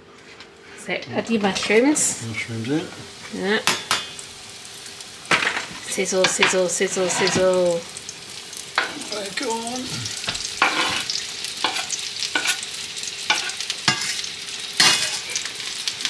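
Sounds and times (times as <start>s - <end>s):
bacon and mushrooms sizzling: 0.8s - 16.0s.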